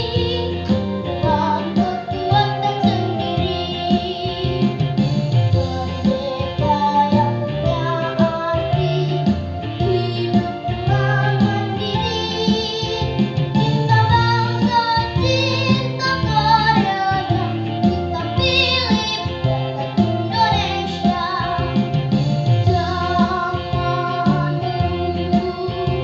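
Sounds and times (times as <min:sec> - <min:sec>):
girl singing a march: 0:00.0 - 0:26.0
grand piano accompaniment: 0:00.0 - 0:26.0.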